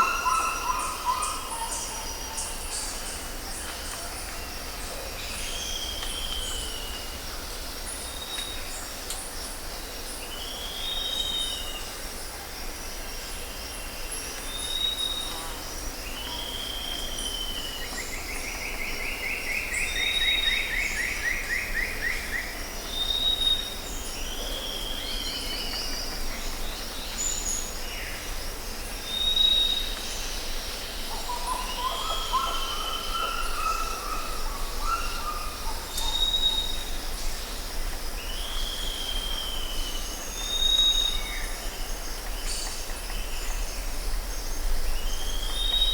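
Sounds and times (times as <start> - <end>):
insect drone: 0.0 - 45.9.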